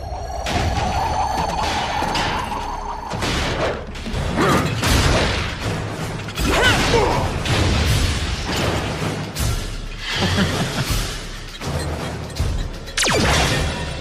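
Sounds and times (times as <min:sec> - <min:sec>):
background score music: 0:00.0 - 0:14.0.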